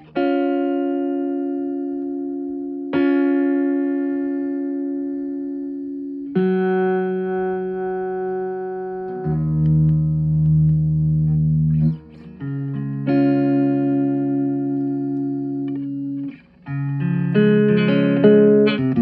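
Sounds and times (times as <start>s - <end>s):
electric guitar long-held notes: 0.0s - 19.0s.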